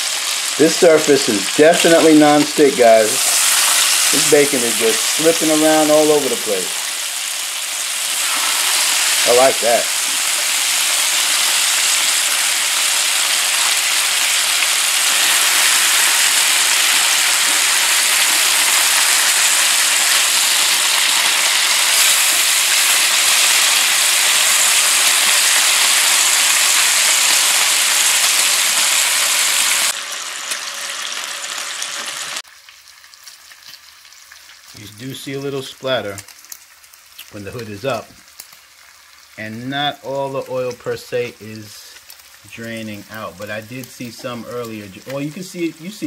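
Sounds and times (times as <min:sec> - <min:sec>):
bacon sizzling on a griddle: 0:00.0 - 0:46.0.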